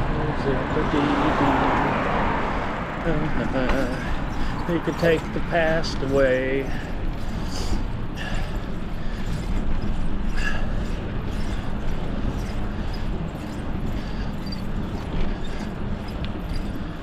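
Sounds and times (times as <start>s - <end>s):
bicycle tyre and road noise: 0.0s - 17.0s.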